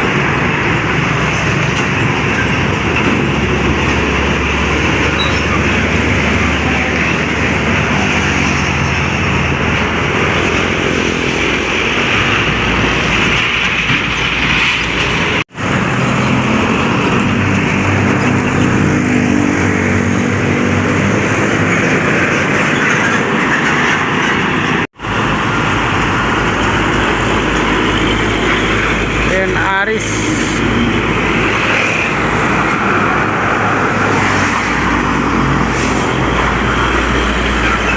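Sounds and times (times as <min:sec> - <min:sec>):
diesel engine drone: 0:00.0 - 0:37.9
heavy road traffic: 0:00.0 - 0:37.9.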